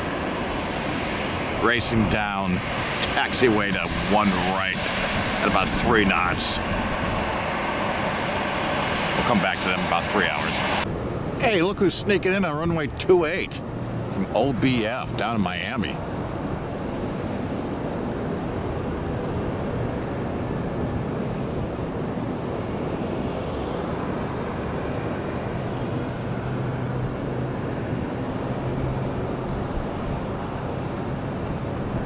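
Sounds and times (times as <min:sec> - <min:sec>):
low hum: 0:00.0 - 0:32.0
propeller airplane engine drone: 0:00.0 - 0:32.0.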